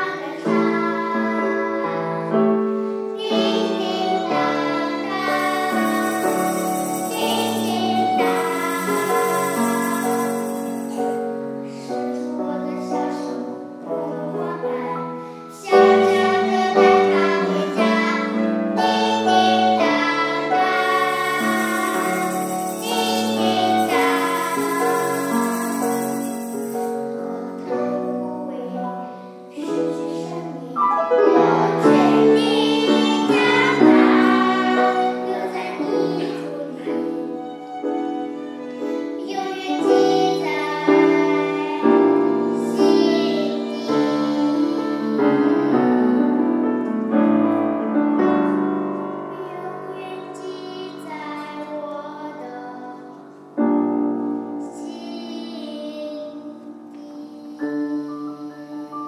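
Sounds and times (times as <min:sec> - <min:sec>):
girls singing in unison: 0:00.0 - 0:02.5, 0:03.1 - 0:26.8, 0:27.4 - 0:46.5, 0:49.3 - 0:53.4
piano accompaniment: 0:00.0 - 0:59.0.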